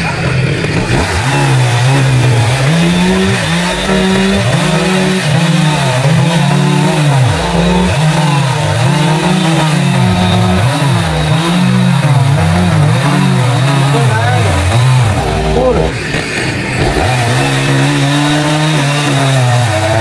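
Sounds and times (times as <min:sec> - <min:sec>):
chainsaw cutting through log: 0:00.0 - 0:20.0.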